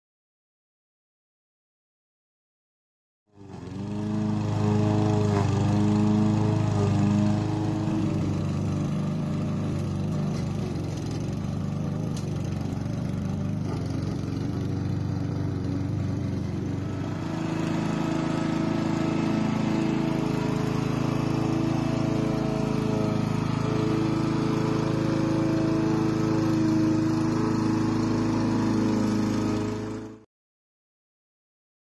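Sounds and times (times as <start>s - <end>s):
lawn mower running: 3.3s - 30.2s.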